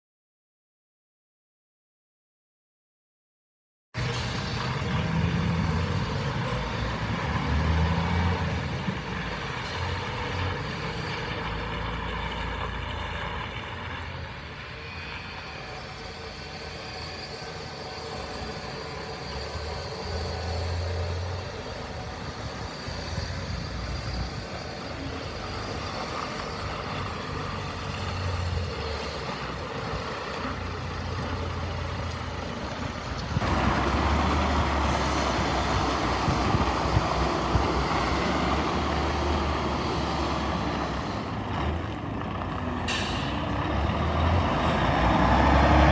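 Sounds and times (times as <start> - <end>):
truck diesel engine running: 4.0 - 45.9.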